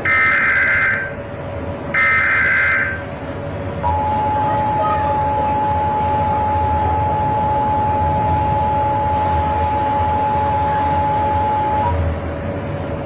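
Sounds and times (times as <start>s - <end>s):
moving train rumble and hiss: 0.0s - 13.0s.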